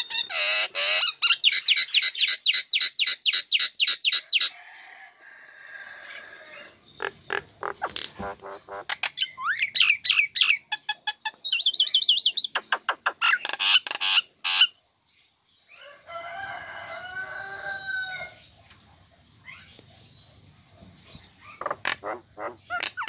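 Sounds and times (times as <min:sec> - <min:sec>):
soft gurgling bird chatter: 0:00.0 - 0:16.1, 0:16.8 - 0:23.0.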